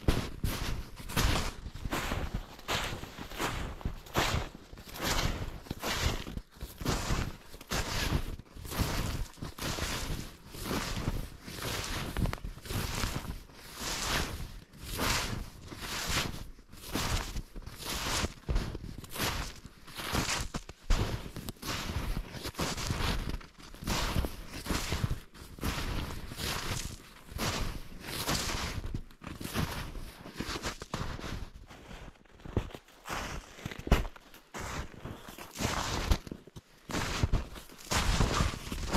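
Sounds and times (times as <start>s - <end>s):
footsteps crunching through snow: 0.0s - 38.9s.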